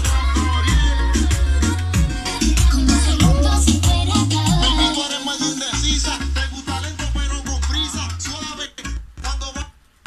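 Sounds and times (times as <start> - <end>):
loud music with heavy bass: 0.0 - 9.8.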